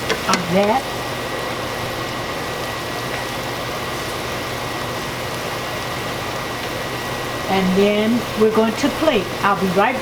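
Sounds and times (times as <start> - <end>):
machine hum and hiss: 0.0 - 10.0.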